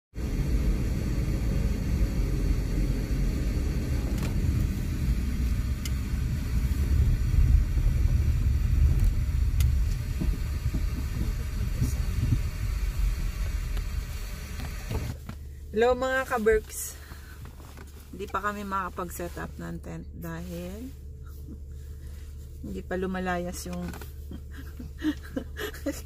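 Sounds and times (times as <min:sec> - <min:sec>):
car interior road rumble: 0:00.2 - 0:26.0.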